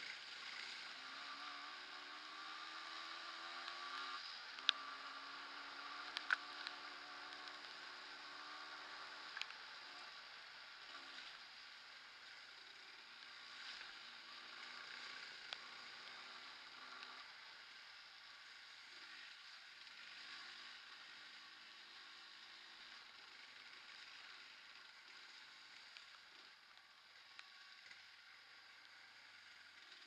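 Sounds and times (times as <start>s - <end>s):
motorcycle engine and road noise: 0.0s - 30.0s.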